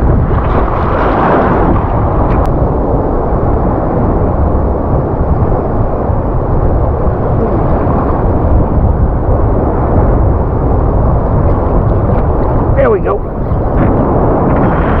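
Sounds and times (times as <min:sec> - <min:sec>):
sea surf washing around legs: 0:00.0 - 0:15.0.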